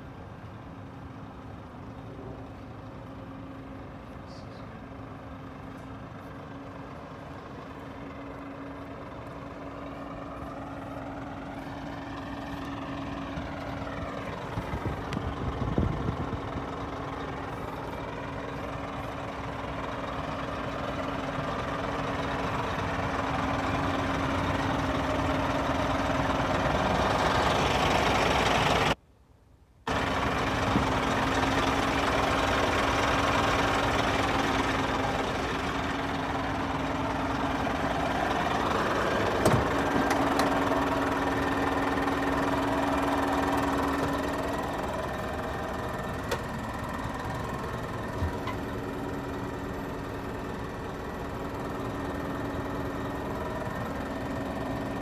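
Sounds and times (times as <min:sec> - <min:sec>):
diesel engine idling: 0:00.0 - 0:29.0, 0:29.9 - 0:55.0.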